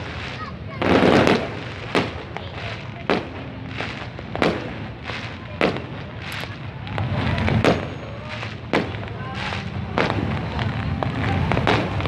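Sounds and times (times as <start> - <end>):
fireworks bangs: 0.0 - 12.0
small fireworks pops: 0.0 - 12.0.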